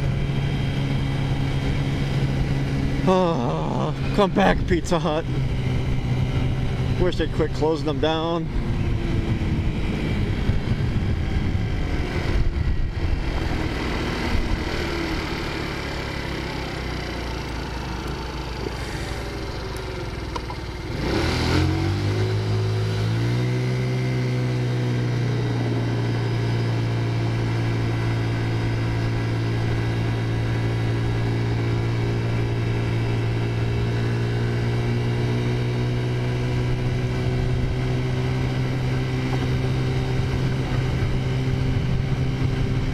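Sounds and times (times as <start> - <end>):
scooter engine revving: 8.5 - 42.9.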